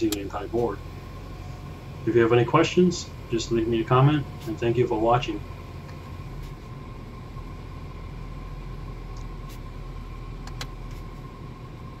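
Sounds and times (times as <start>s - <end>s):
car engine idling: 0.0s - 12.0s
faint steady hum: 0.0s - 12.0s.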